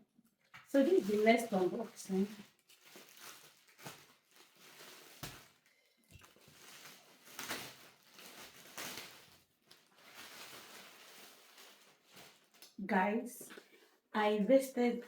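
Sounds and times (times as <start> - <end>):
packaging rustling: 0.6 - 12.8.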